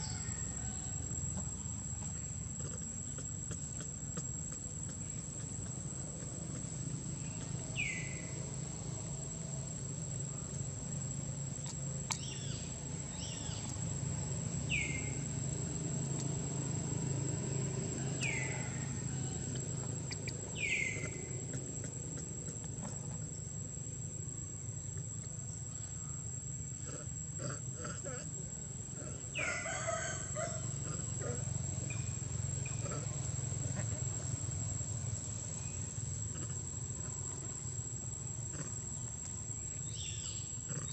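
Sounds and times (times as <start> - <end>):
high-pitched insect drone: 5.0 - 26.7, 29.3 - 40.9.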